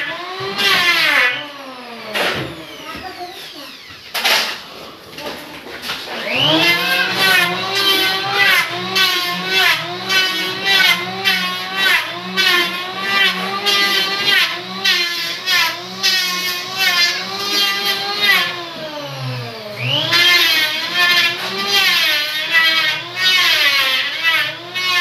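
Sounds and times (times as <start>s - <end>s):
electric planer cutting wood: 0.0s - 25.0s.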